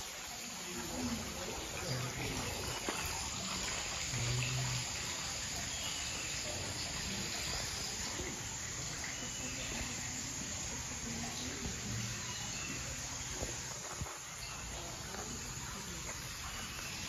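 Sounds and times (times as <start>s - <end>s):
trickling water: 0.0s - 17.0s.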